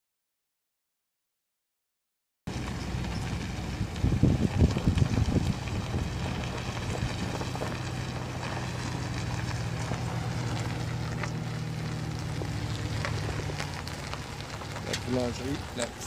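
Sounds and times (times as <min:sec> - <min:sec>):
car engine humming: 0:02.5 - 0:16.0
road noise: 0:02.5 - 0:16.0.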